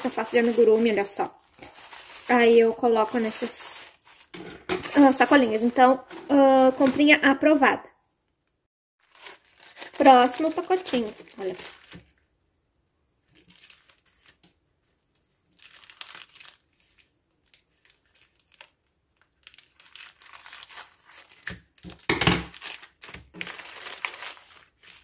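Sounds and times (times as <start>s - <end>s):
plastic bag crinkling: 0.0s - 7.4s, 9.0s - 12.2s, 13.2s - 14.4s, 15.1s - 25.0s.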